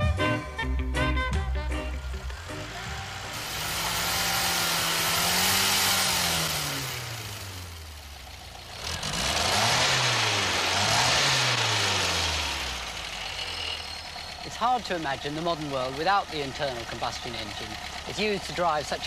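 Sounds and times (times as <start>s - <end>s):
car engine revving: 1.2s - 19.0s.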